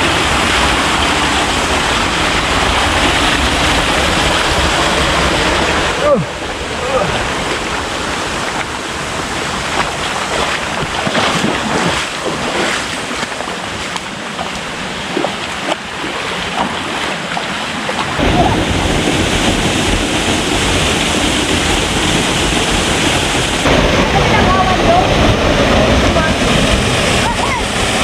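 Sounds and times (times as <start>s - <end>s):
waterfall roaring: 0.0s - 28.0s
wind rumbling on microphone: 0.0s - 28.0s.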